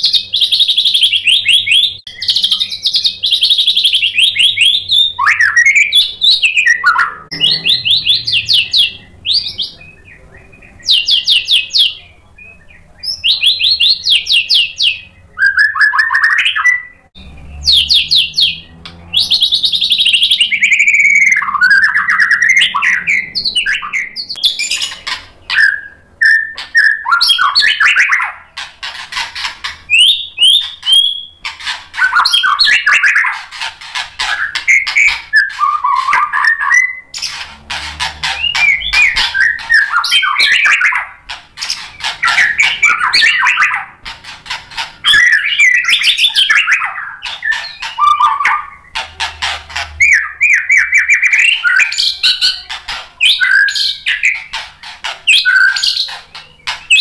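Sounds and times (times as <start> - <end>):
bird singing: 0.0 - 57.0.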